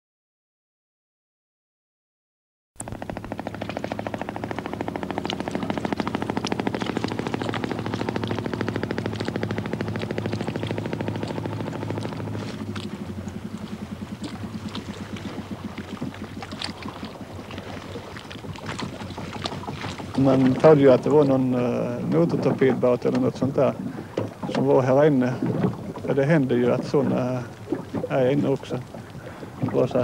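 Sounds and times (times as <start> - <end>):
motorboat engine putt-putt: 2.8 - 30.0.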